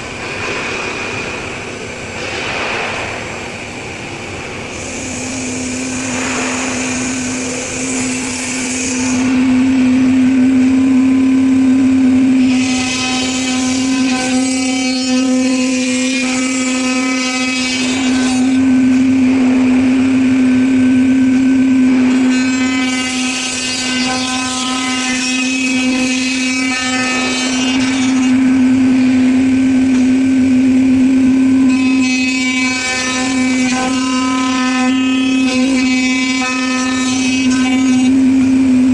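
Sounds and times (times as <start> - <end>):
machine humming: 0.0 - 38.9
cnc tool cutting: 3.7 - 38.9.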